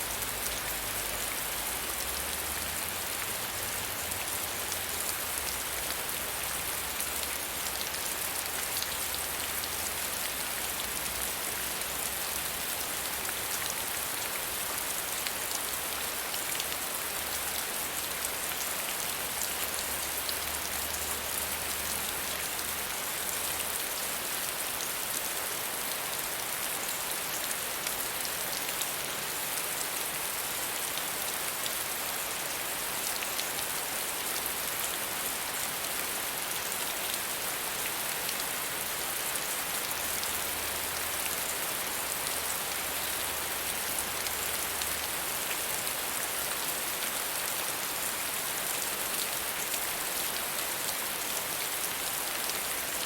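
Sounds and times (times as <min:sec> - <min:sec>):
soft rain falling: 0:00.0 - 0:53.0.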